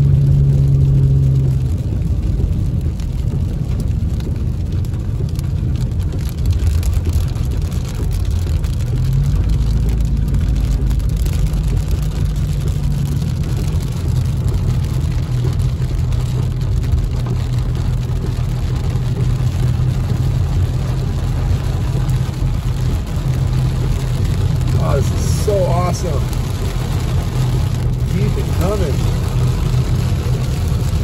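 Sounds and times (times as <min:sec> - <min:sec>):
car engine and road rumble: 0:00.0 - 0:31.0
rain and tyre spray hiss: 0:00.0 - 0:31.0.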